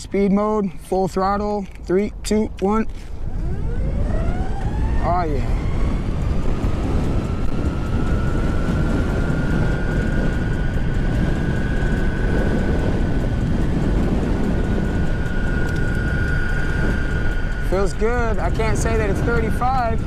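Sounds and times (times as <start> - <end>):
wind and road noise rumble: 0.0 - 20.0
electric skateboard motors whining: 3.0 - 20.0.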